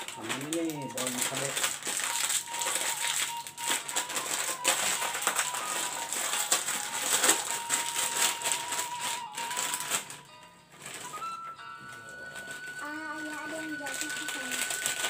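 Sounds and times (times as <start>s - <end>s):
background music: 0.0s - 15.0s
plastic sachets crinkling: 0.0s - 15.0s.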